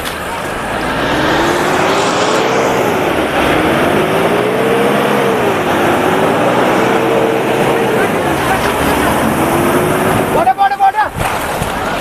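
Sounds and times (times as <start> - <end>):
off-road vehicle engine revving: 0.0 - 10.6.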